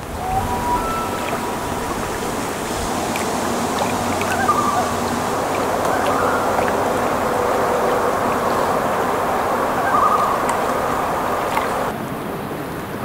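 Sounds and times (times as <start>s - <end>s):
loon calling: 0.0s - 11.9s
wind rushing: 0.0s - 11.9s
choppy water: 0.0s - 13.0s.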